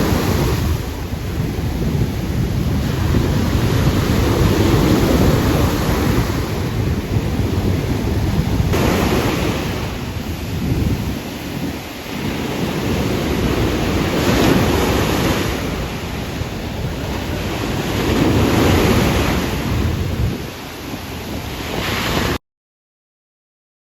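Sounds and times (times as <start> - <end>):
waves breaking: 0.0 - 22.4
wind buffeting microphone: 0.0 - 22.4.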